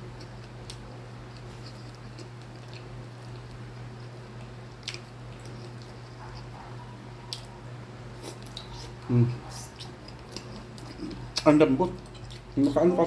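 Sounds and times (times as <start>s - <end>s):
chewing soft meat: 0.0s - 13.0s
steady low hum: 0.0s - 13.0s.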